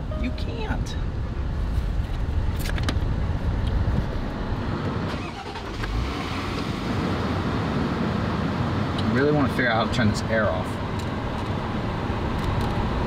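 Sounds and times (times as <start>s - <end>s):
car engine starting: 0.0s - 13.0s.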